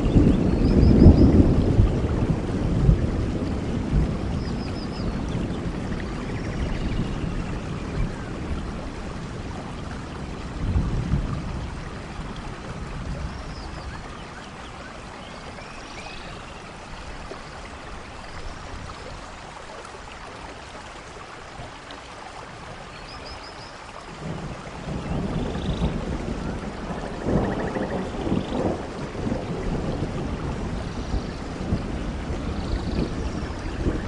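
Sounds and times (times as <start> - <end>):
distant thunder rumbles: 0.0 - 19.3, 24.0 - 34.0
steady rain falling: 0.0 - 34.0.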